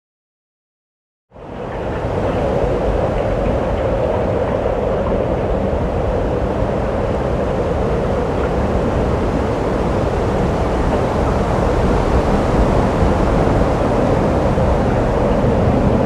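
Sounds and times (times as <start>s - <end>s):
boat rumbling on water: 1.4s - 16.0s
wind buffeting microphone: 1.4s - 16.0s.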